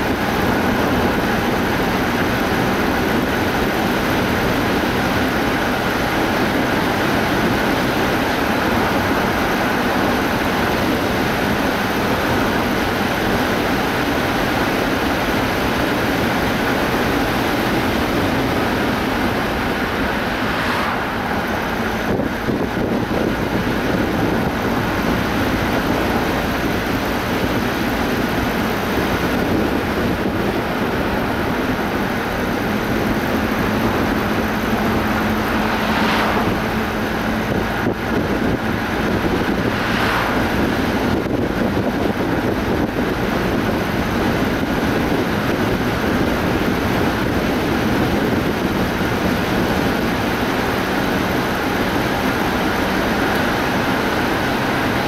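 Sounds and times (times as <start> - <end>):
car road and wind noise: 0.0 - 55.0.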